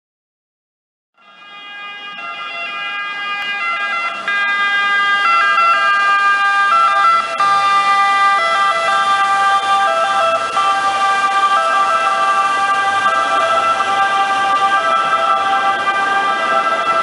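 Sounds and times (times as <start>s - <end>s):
boat siren stepping between pitches: 1.2s - 17.0s.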